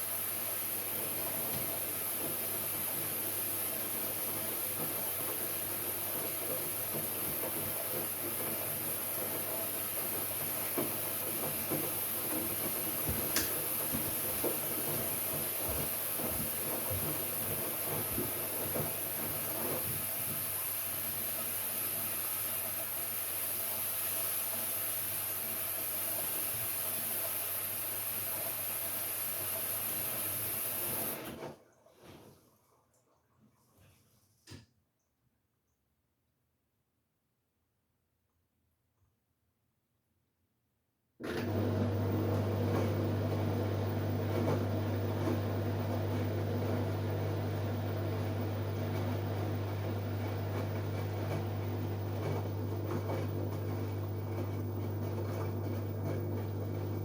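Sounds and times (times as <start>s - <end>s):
washing machine hum and hiss: 0.0s - 34.6s, 41.2s - 57.0s.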